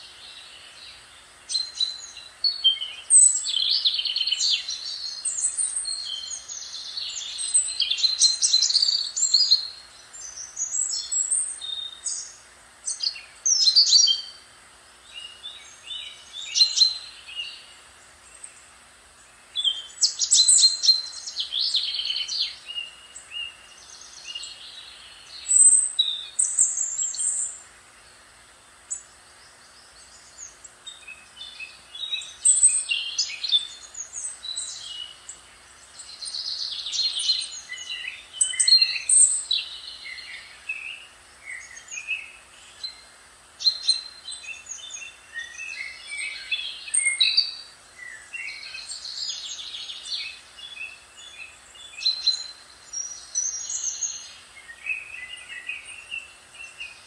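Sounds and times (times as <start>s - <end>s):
faint steady hiss: 0.0s - 57.0s
songbirds warbling: 0.0s - 57.0s.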